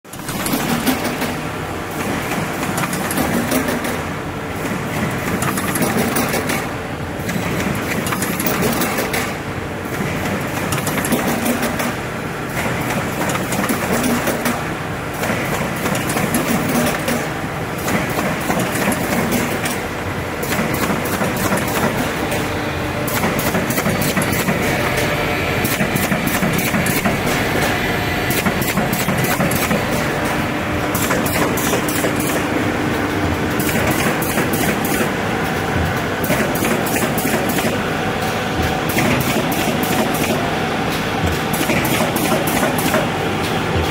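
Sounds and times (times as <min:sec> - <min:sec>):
machine clattering: 0:00.1 - 0:22.5, 0:23.1 - 0:43.9.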